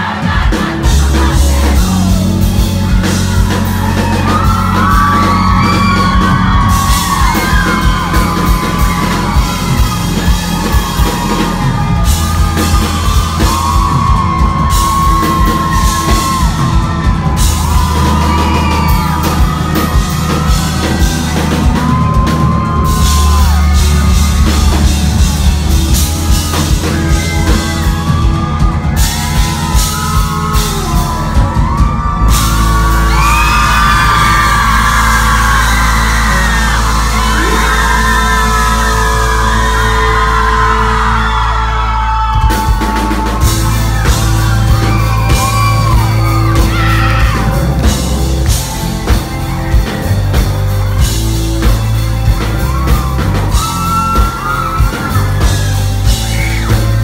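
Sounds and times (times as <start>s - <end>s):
live pop-rock band: 0.0s - 57.0s.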